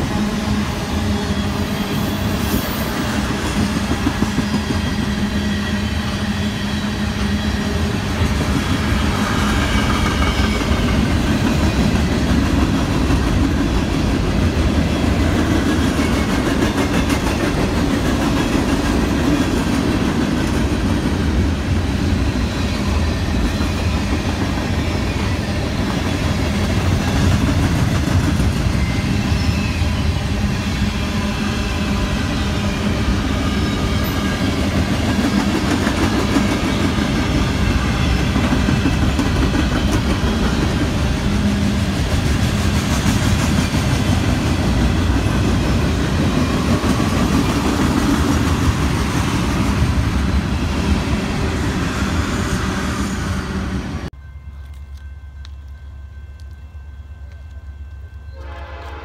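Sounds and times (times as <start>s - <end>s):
train rolling along rails: 0.0s - 59.0s.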